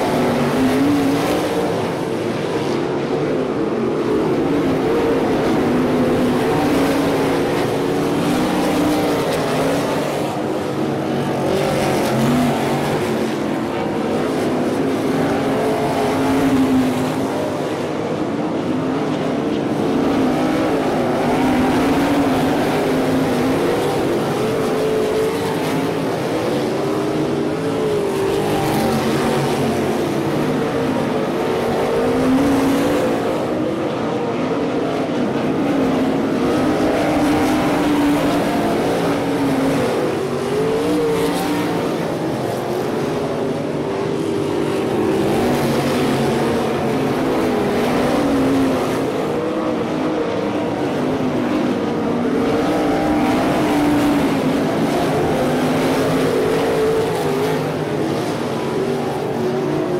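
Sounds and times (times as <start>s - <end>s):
racing car engines: 0.0s - 59.9s.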